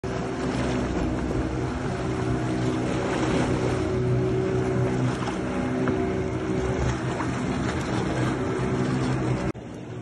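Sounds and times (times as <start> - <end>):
steady engine drone: 0.0 - 10.0
wind and water noise: 0.0 - 10.0.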